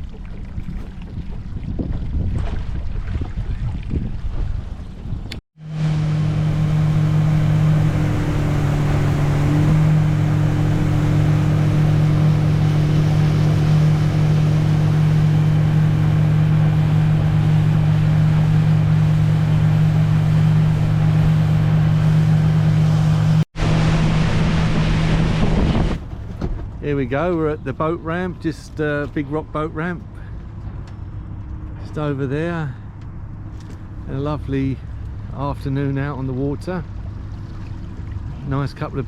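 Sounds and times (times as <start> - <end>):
boat engine running: 0.0 - 39.0
rush of wind and water: 0.0 - 39.0.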